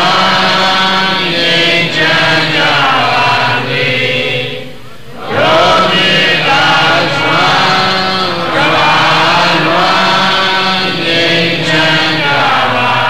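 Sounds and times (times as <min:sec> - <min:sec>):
chanting in steady recitation: 0:00.0 - 0:13.0.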